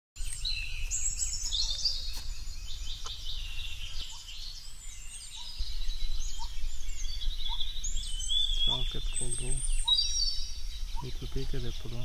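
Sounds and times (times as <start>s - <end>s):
birds chirping: 0.2s - 12.0s
steady low rumble: 0.5s - 12.0s.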